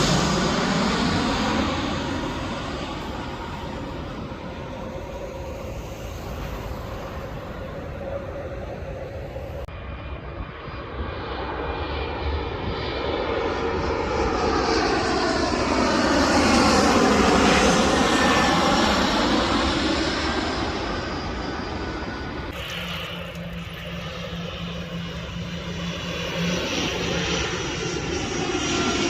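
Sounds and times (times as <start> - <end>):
jet airliner flying over: 0.0 - 29.0.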